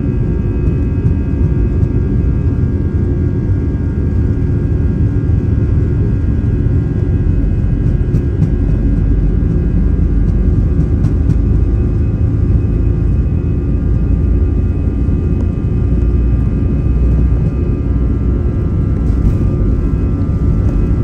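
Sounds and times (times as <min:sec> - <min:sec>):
jet engines rumbling and whining: 0:00.0 - 0:21.0.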